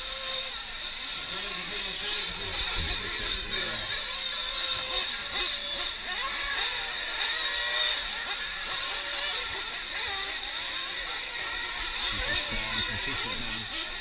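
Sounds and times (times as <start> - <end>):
small two-stroke engines screaming: 0.0 - 14.0.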